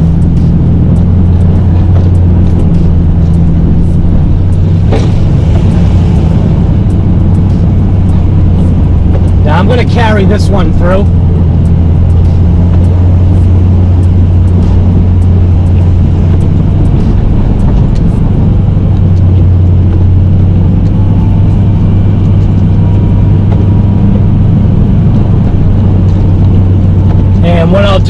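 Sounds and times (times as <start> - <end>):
truck engine running under load: 0.0 - 28.0.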